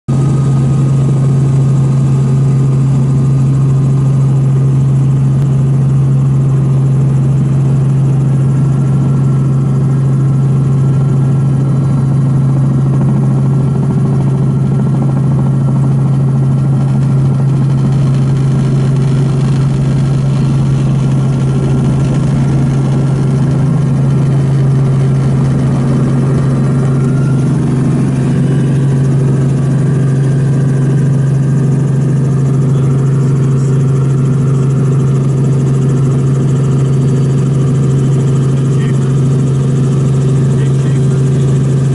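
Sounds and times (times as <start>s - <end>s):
snowmobile engine running: 0.1s - 41.9s.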